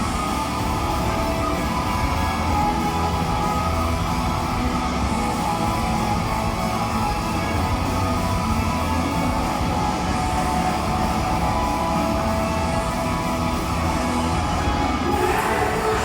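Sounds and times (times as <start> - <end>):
electric guitar: 0.0 - 16.0
loud pop-rock music: 0.0 - 16.0.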